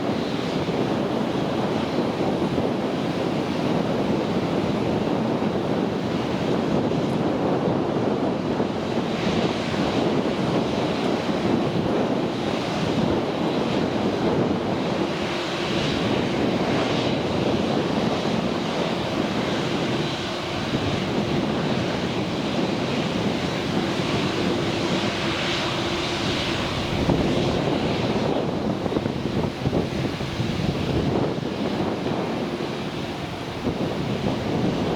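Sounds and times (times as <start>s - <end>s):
jet engine noise: 0.0s - 34.9s
wind buffeting microphone: 0.0s - 34.9s.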